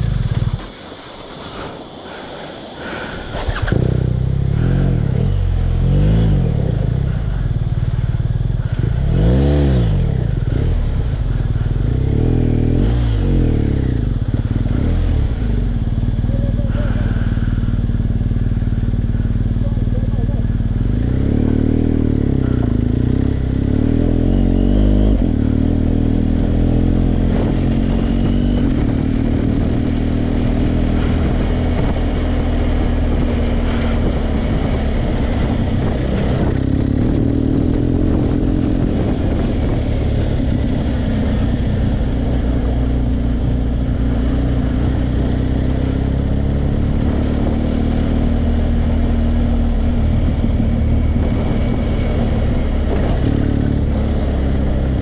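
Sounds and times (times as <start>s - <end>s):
motorcycle engine accelerating: 0.0s - 1.6s, 3.3s - 55.0s.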